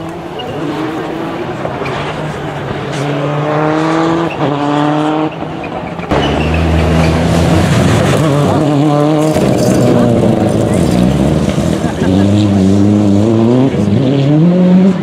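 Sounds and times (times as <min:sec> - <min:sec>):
car passing with deep rumble: 0:00.0 - 0:15.0
rally car engine at full throttle: 0:00.0 - 0:15.0.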